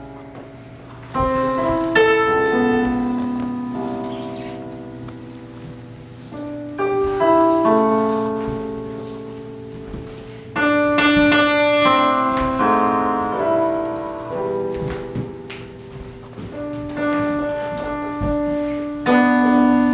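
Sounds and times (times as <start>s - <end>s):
slow piano music: 0.0s - 19.9s.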